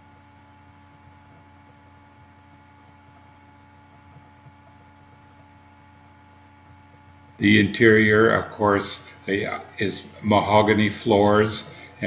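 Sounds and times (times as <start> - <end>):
electrical hum: 0.0 - 12.0
low hiss: 0.0 - 12.0.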